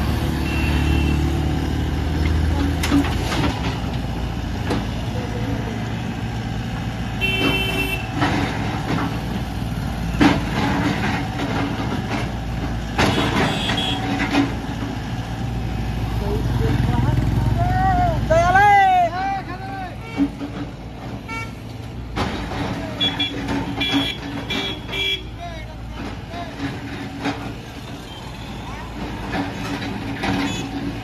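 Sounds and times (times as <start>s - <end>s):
excavator diesel engine running: 0.0s - 31.0s
passing road traffic: 0.0s - 31.0s
truck diesel engine running: 0.0s - 31.0s.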